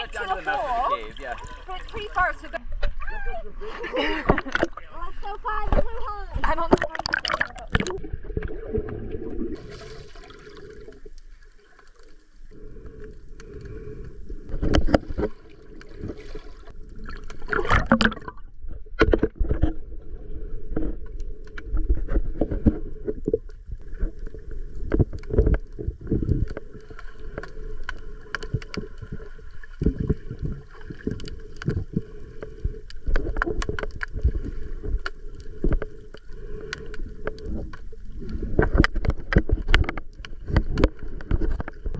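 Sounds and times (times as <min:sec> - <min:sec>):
water sloshing and splashing: 0:00.0 - 0:41.9.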